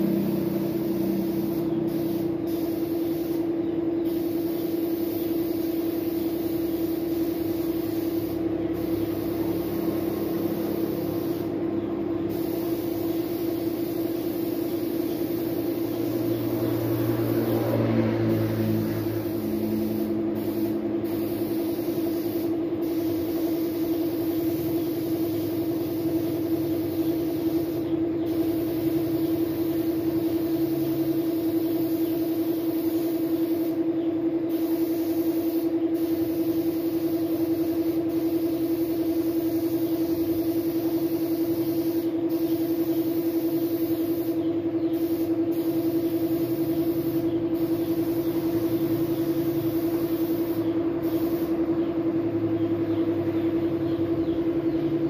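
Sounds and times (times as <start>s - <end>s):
spray gun hissing: 0.0s - 11.6s, 12.2s - 33.8s, 34.5s - 51.6s.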